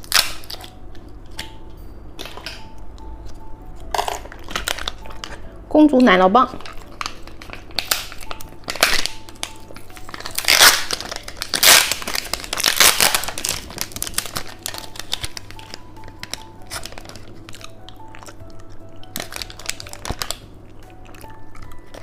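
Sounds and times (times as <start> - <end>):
plastic wrapper crinkling: 0.0 - 1.6, 3.8 - 22.0.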